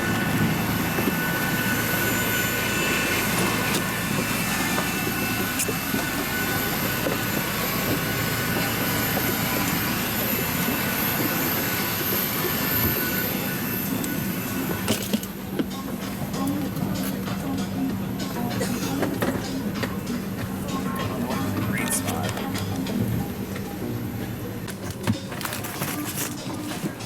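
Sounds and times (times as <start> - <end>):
jet airliner hum and hiss: 0.0 - 27.0.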